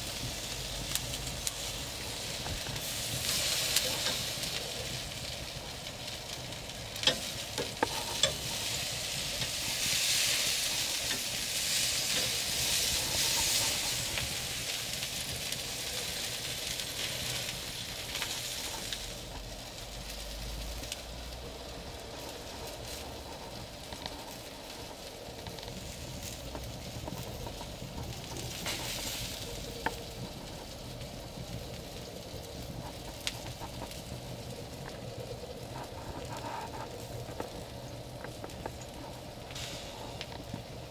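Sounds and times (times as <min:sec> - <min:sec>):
burning wood crackling: 0:00.0 - 0:40.9
food sizzling on a grill: 0:00.0 - 0:40.9.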